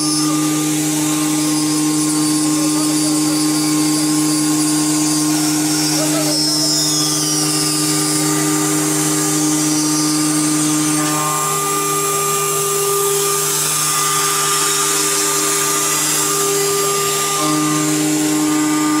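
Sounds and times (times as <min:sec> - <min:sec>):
machine spindle whine: 0:00.0 - 0:19.0
metal cutting hiss: 0:00.0 - 0:19.0.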